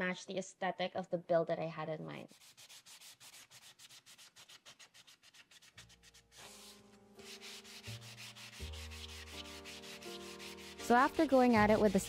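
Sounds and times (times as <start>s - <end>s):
sanding block scrubbing metal: 2.2s - 12.0s.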